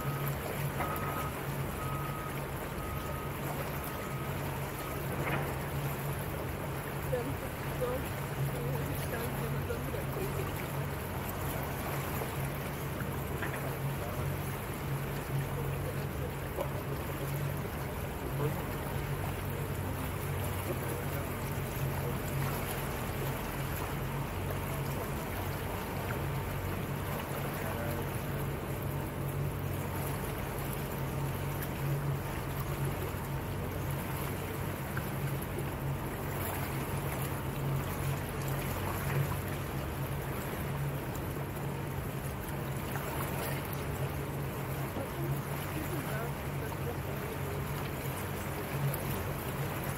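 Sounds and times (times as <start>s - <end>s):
motorboat engine humming: 0.0s - 49.9s
water washing along hull: 0.0s - 49.9s.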